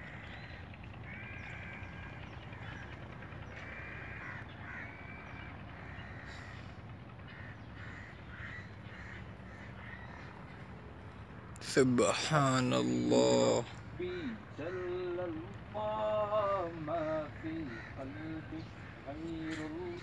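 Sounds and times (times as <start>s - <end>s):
birds calling: 0.0s - 20.0s
low background rumble: 0.0s - 20.0s.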